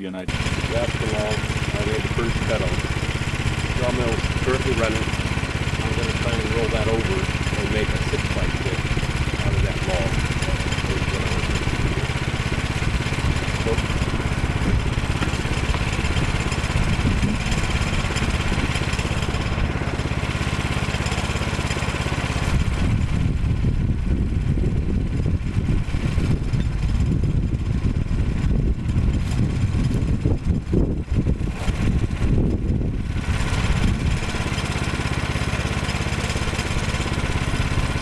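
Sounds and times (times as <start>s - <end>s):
small gasoline engine running: 0.3s - 38.0s.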